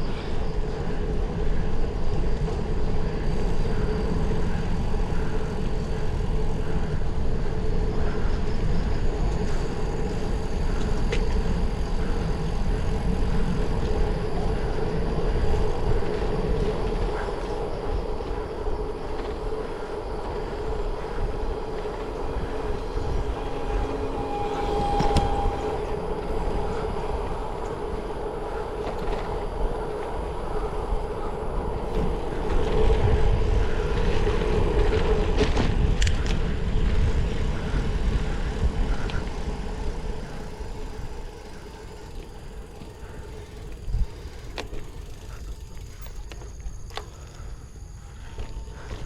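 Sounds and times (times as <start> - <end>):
bicycle tyre noise: 0.0 - 49.0
wind rumbling on microphone: 0.0 - 49.0.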